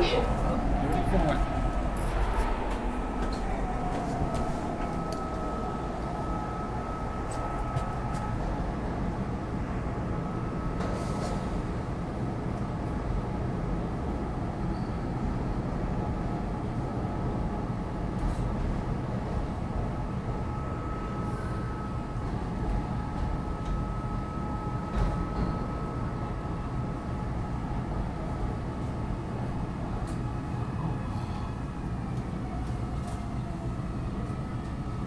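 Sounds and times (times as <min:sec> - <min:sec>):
train rumble on track: 0:00.0 - 0:35.0.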